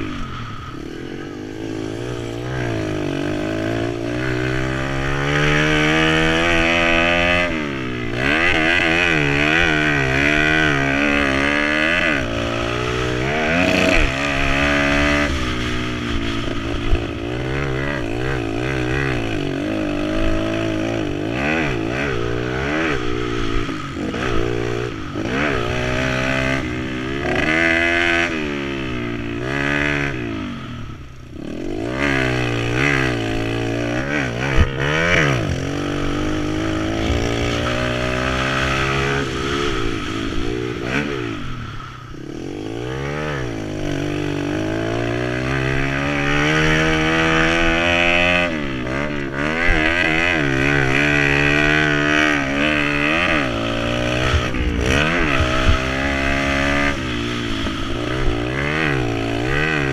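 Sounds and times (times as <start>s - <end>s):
small motorbike engine revving: 0.0s - 59.9s.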